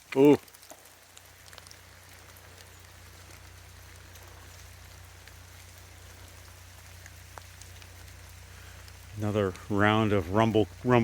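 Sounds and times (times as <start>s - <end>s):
freezing rain pattering: 0.0s - 11.0s
ice dripping: 0.0s - 11.0s
steady low hum: 0.9s - 11.0s.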